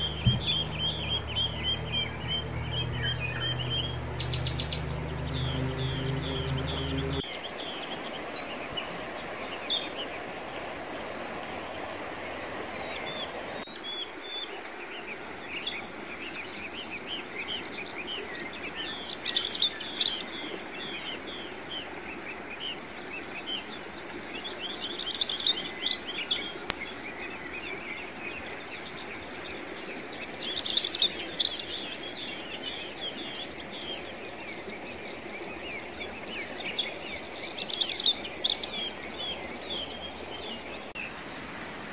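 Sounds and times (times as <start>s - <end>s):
songbirds chirping and twittering: 0.0s - 41.9s.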